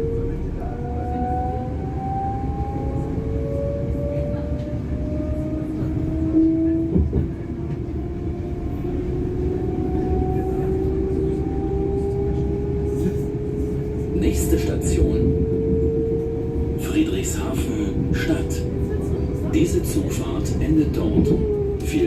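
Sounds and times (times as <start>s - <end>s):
train running rumble: 0.0s - 22.0s
train traction motor whine: 0.0s - 22.0s.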